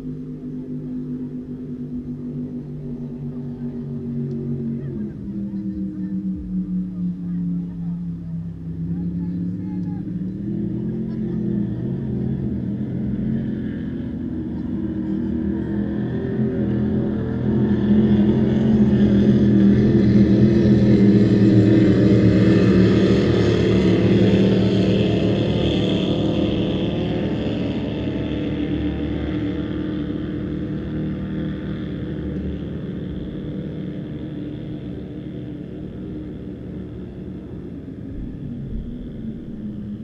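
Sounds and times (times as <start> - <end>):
powerboat engine running flat out: 0.0 - 40.0.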